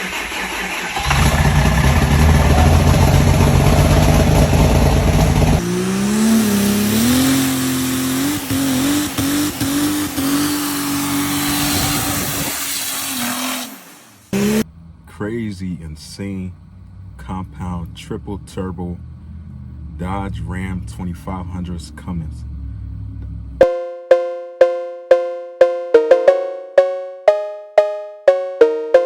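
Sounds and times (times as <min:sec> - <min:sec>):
diesel engine starting up: 0:00.0 - 0:23.7.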